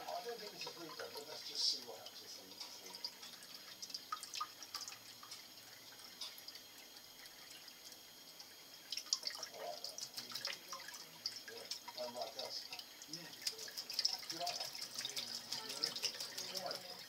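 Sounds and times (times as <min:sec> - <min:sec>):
water dripping and splashing in sink: 0:00.0 - 0:17.0.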